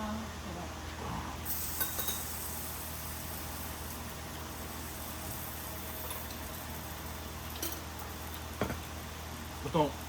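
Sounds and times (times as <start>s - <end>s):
meat sizzling on a griddle: 1.5s - 9.9s.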